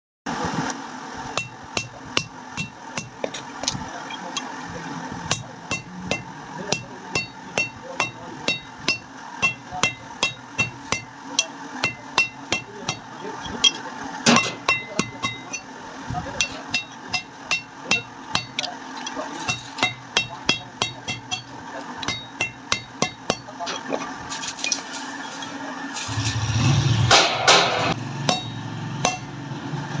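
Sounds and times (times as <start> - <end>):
hammer striking metal on anvil: 1.4 - 24.7, 27.0 - 29.4.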